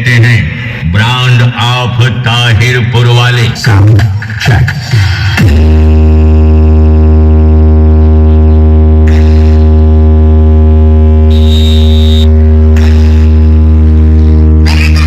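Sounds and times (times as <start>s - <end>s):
deep bass drone from speakers: 0.0s - 15.0s.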